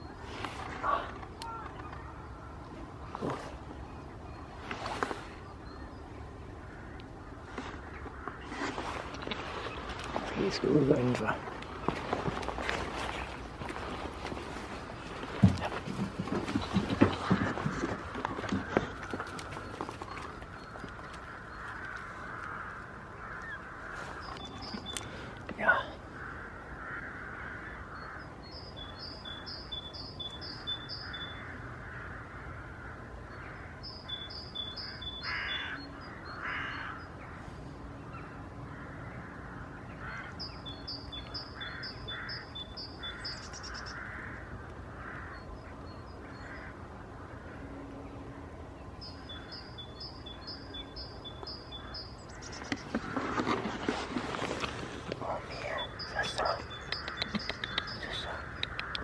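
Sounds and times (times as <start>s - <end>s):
harsh low bird calls: 0.0s - 59.0s.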